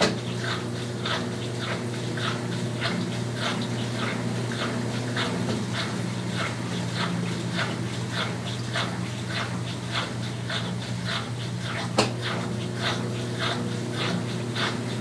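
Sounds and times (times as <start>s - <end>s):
washing machine motor hum: 0.0s - 15.0s
washing machine rhythmic swish: 0.0s - 15.0s.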